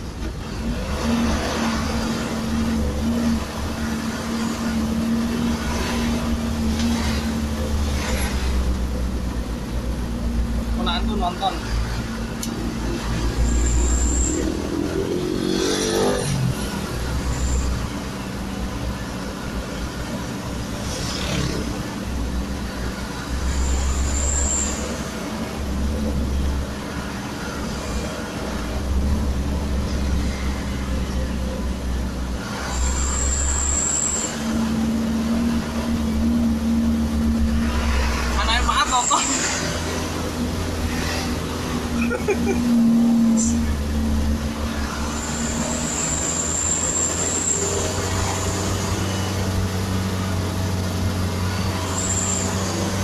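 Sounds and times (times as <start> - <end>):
truck engine and road noise: 0.0 - 53.0.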